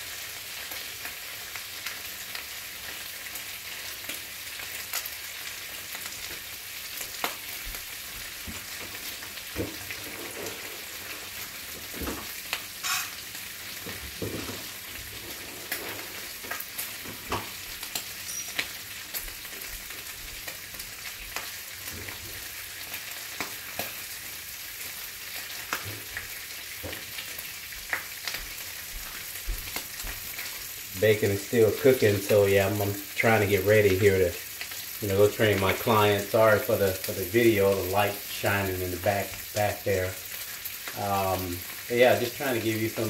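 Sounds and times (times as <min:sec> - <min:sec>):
bacon sizzling in a skillet: 0:00.0 - 0:43.0.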